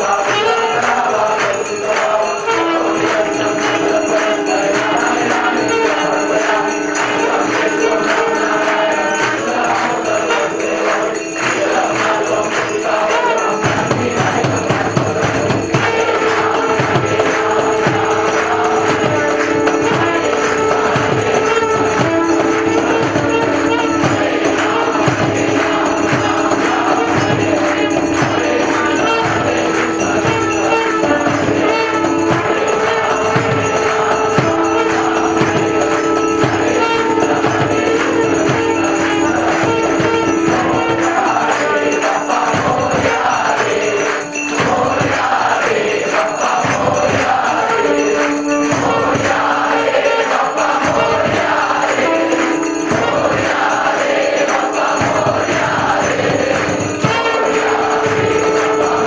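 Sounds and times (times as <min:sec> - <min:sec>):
crowd singing a hymn: 0:00.0 - 0:59.0
percussion: 0:00.0 - 0:59.0
rhythmic hand-clapping: 0:00.0 - 0:59.0.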